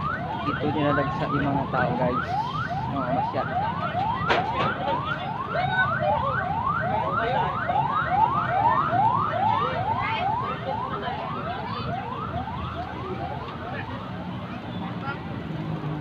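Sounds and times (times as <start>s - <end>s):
electronic siren whooping: 0.0s - 14.6s.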